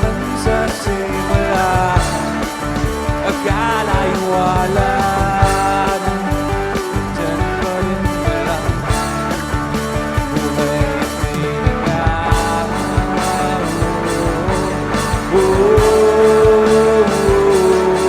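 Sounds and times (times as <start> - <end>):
person singing: 0.0 - 9.2, 10.3 - 18.0
guitars: 0.0 - 18.0
rock band playing: 0.0 - 18.0
steady drum beat: 0.0 - 18.0.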